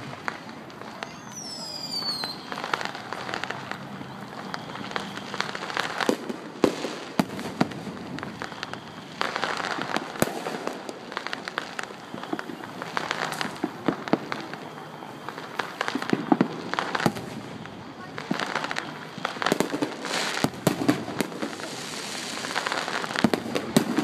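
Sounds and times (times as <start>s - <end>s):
firework crackling: 0.0s - 24.0s.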